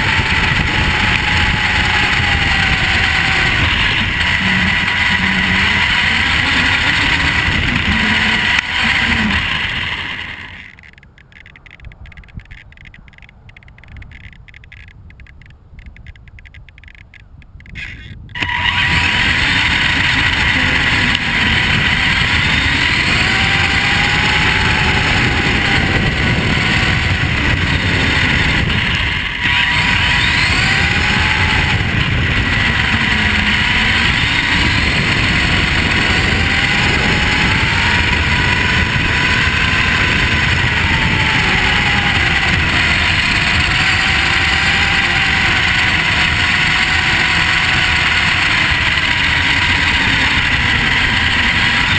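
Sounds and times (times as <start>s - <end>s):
electric motor whine: 0.0s - 14.4s, 17.7s - 51.9s.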